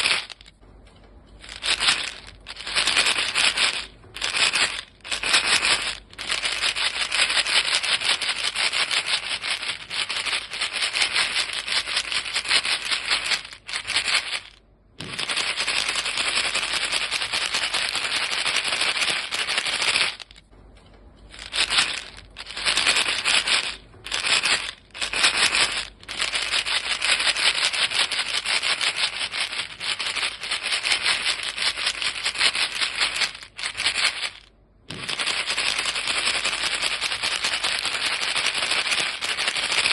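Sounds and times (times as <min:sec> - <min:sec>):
gum pellets rattling in box: 0:00.0 - 0:00.6, 0:01.4 - 0:20.5, 0:21.3 - 0:39.9.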